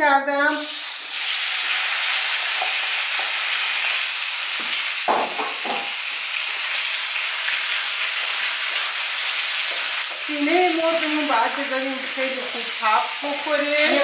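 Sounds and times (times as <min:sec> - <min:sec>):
chicken sizzling in oil: 0:00.5 - 0:14.0.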